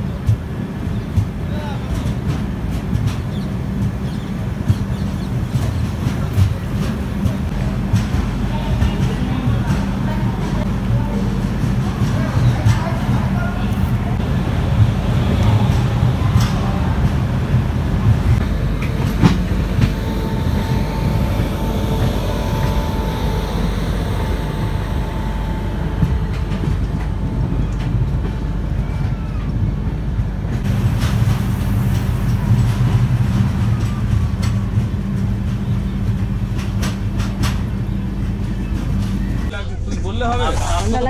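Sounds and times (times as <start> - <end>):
wheels clicking over rail joints: 0.0 - 39.5
train rumbling on track: 0.0 - 41.0.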